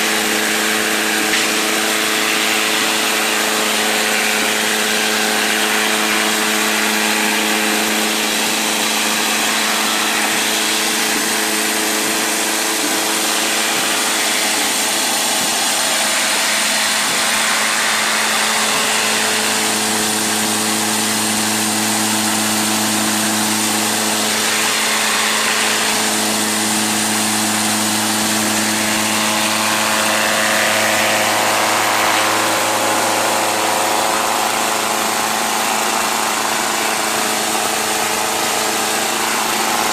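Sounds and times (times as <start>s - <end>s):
scarifier scraping floor coating: 0.0s - 39.9s.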